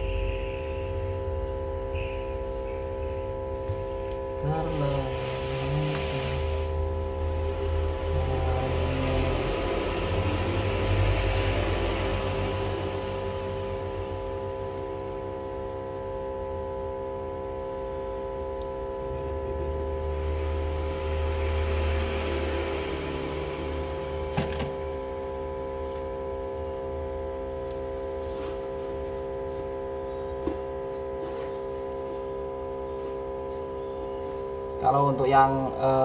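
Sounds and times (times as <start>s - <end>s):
machine hum with held tones: 0.0s - 36.0s.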